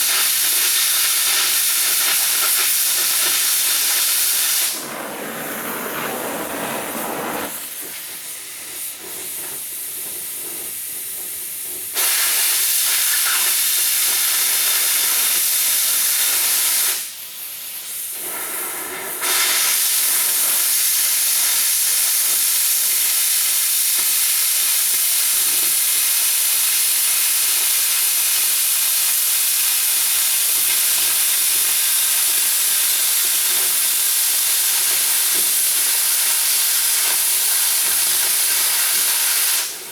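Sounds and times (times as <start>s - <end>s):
cutting torch hissing: 0.0s - 28.4s, 29.1s - 39.9s.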